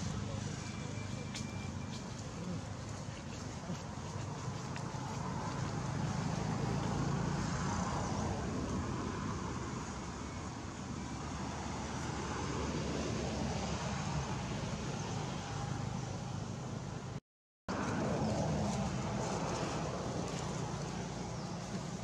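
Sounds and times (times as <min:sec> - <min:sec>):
outdoor rumble and hiss: 0:00.0 - 0:22.0.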